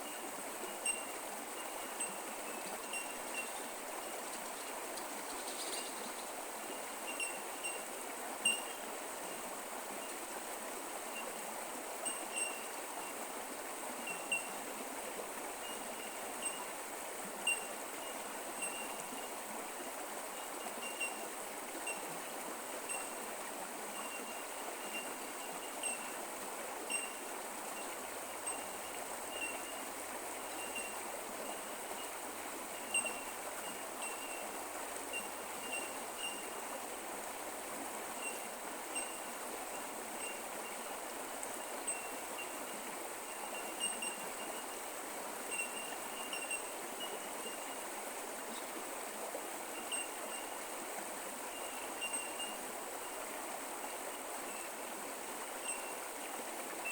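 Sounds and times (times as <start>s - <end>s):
creek water running: 0.0s - 56.9s.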